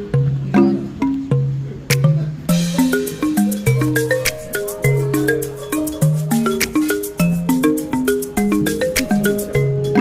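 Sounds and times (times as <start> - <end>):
melody of short struck notes: 0.5 - 10.0
light clicking beat: 1.9 - 10.0.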